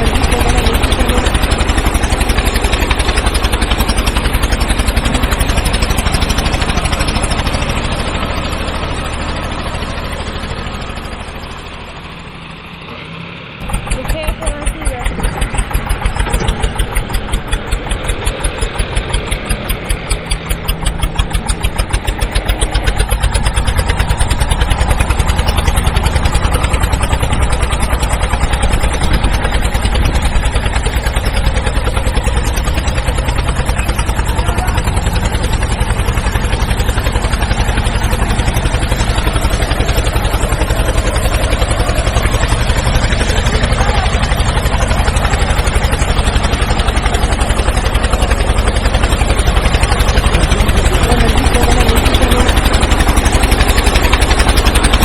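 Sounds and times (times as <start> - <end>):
tractor engine chugging: 0.0 - 55.0.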